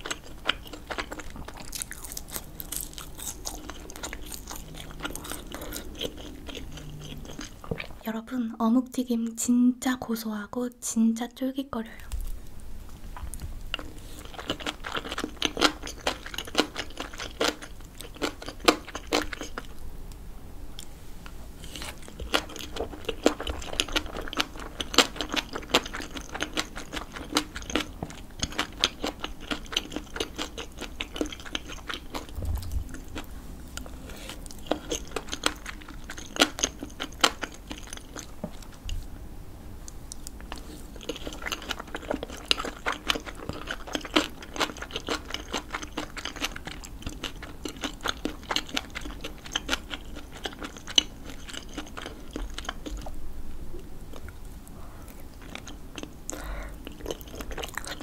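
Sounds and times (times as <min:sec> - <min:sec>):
wet chewing clicks and crackles: 0:00.0 - 0:08.1, 0:13.2 - 0:19.8, 0:21.7 - 0:39.1, 0:39.8 - 0:53.2, 0:54.1 - 0:58.0.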